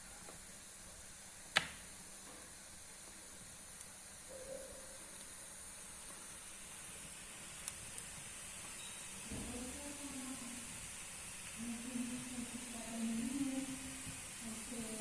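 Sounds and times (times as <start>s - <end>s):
wood fire hissing: 0.0s - 15.0s
fire popping and crackling: 0.3s - 4.1s, 5.2s - 14.9s.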